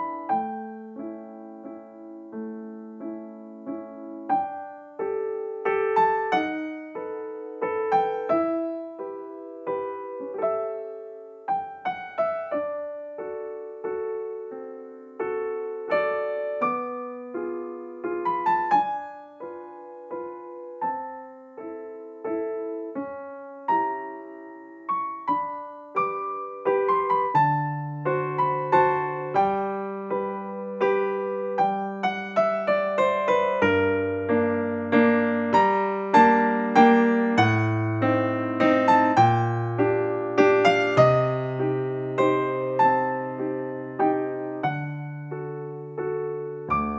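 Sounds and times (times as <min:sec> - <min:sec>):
solo piano music: 0:00.0 - 0:46.9.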